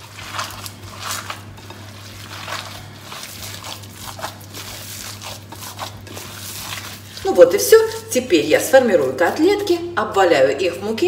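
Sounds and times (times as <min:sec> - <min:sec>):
wet squelching of kneaded meat: 0:00.0 - 0:09.8
steady low hum: 0:00.0 - 0:11.0.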